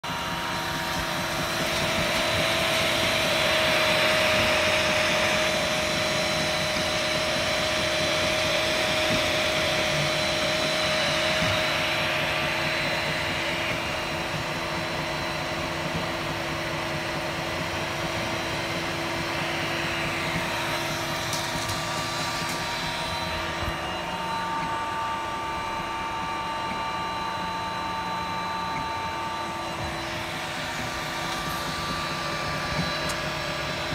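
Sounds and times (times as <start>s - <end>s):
cooling fans whirring: 0.0s - 33.9s
stepper motors whining: 0.0s - 33.9s.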